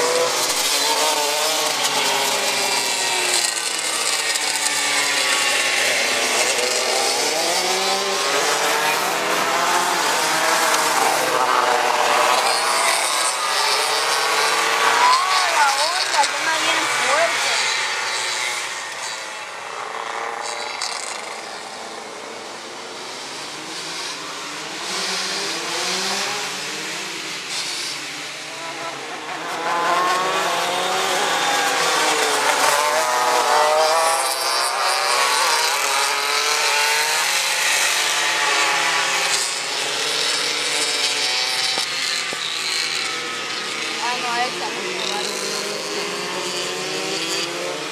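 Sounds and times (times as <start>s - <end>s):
go-kart engines revving: 0.0s - 47.9s.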